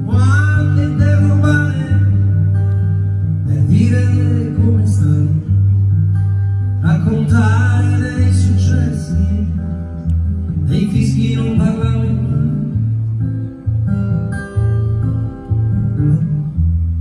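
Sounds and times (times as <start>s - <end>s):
strummed acoustic guitar: 0.0s - 17.0s
upright double bass notes: 0.0s - 17.0s.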